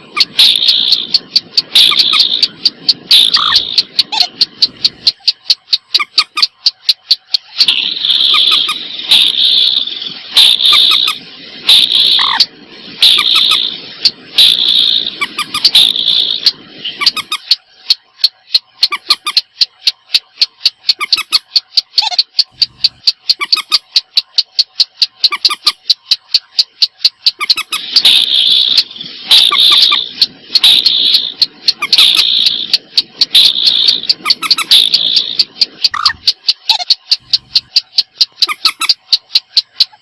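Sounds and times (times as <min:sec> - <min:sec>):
fast clicking bird notes: 0:00.0 - 0:09.8, 0:10.4 - 0:40.0.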